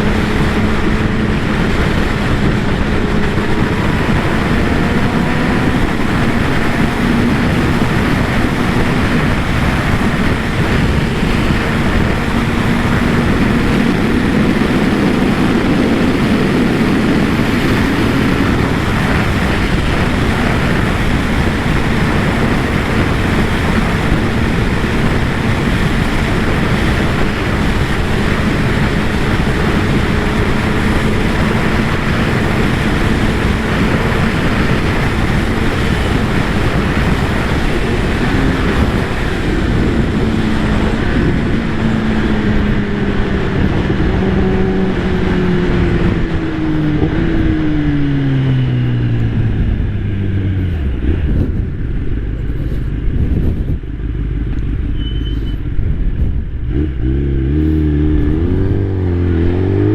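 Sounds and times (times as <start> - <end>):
motorcycle engine and exhaust: 0.0 - 59.9
wind rush on microphone: 0.0 - 59.9.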